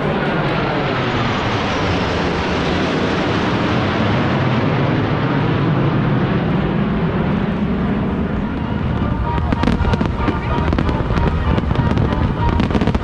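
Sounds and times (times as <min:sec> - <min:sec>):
aircraft engine rushing: 0:00.0 - 0:13.0.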